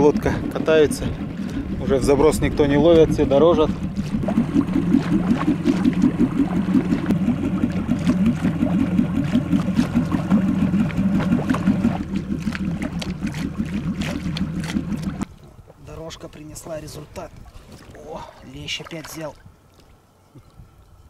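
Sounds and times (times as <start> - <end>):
outboard motor running: 0.0 - 19.4
water splashing against hull: 0.0 - 21.0.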